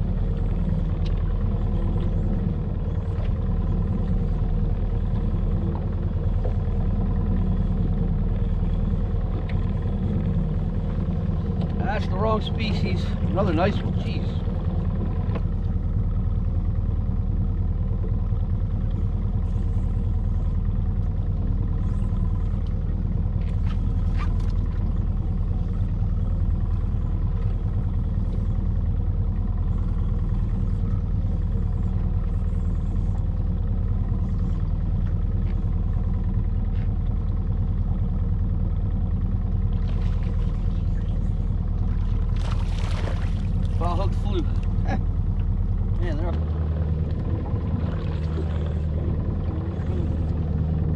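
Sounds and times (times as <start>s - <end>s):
outboard motor idling: 0.0s - 50.9s.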